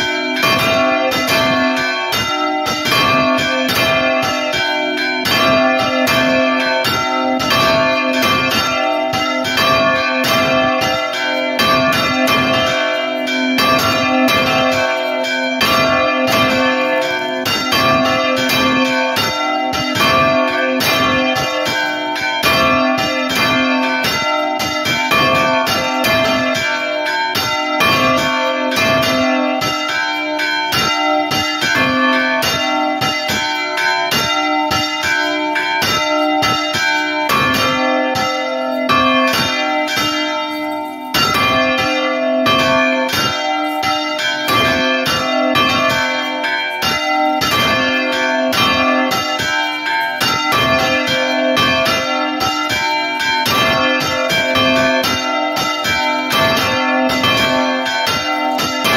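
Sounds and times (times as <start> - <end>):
church bell ringing: 0.0 - 58.9.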